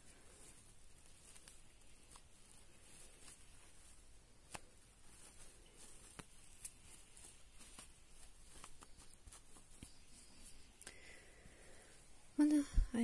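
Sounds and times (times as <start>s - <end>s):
soft handling rustling: 0.0s - 13.0s.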